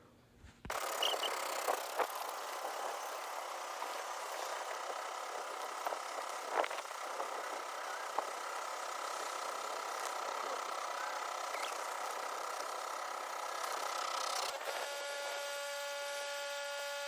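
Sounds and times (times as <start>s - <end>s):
thin steady whine: 0.6s - 17.0s
pressure washer hissing: 0.7s - 17.0s.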